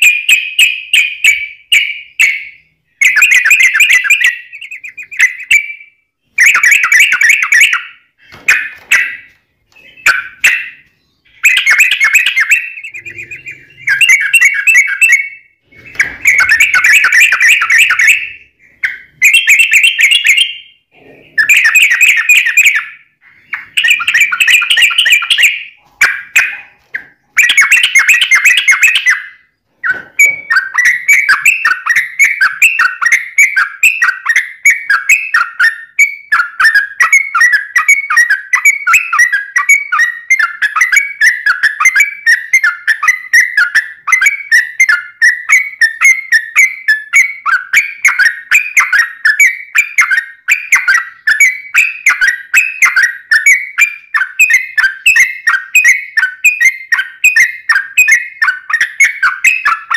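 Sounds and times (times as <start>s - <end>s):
bulbul singing: 0.0s - 59.9s.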